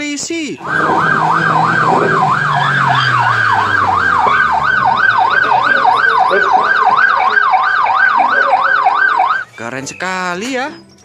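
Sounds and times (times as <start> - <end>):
police siren yelping: 0.6 - 9.6.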